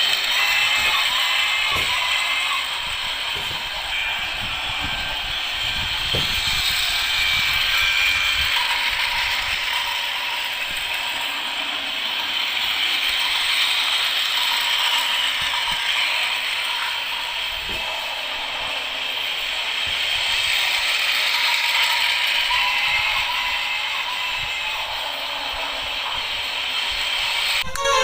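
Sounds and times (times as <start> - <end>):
toy train motor whirring: 0.0 - 28.0.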